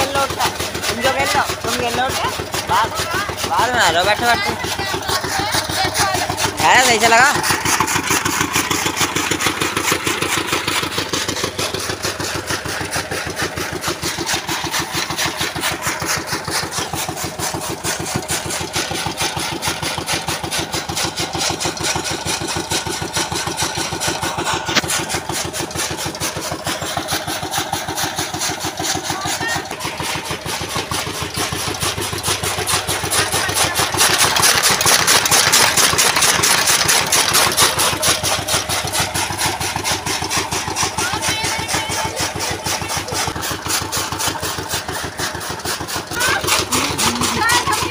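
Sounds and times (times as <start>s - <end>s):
chaff cutter chopping stalks: 0.0s - 47.9s.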